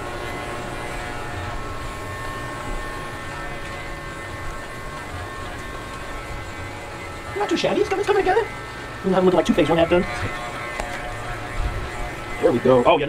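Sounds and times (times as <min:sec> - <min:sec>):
electric clippers buzzing: 0:00.0 - 0:13.0.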